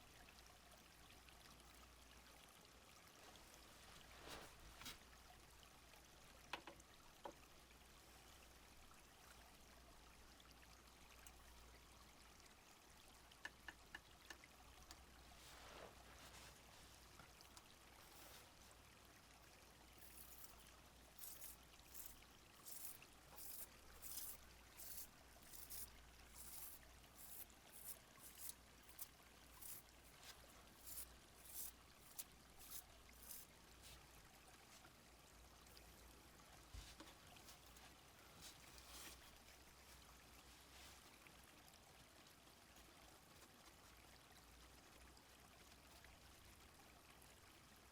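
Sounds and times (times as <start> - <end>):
small stream trickling: 0.0 - 47.9.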